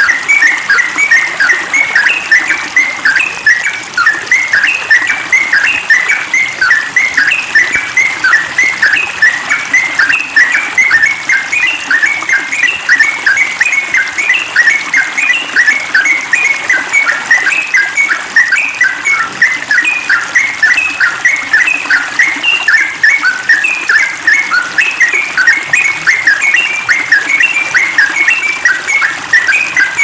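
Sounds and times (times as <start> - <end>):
bird singing whistled notes: 0.0 - 30.0.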